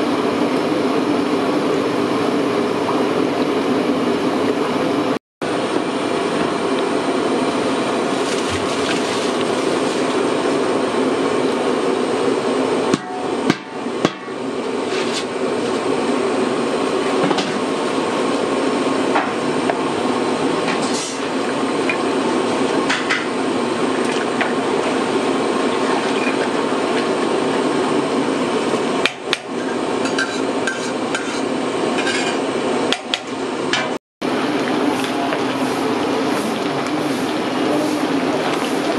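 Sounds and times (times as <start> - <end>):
pot boiling hard: 0.0 - 38.9.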